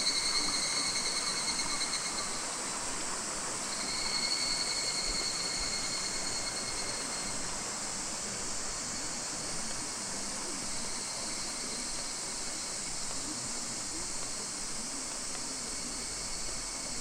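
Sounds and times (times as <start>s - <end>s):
chorus of cicadas: 0.0s - 17.0s.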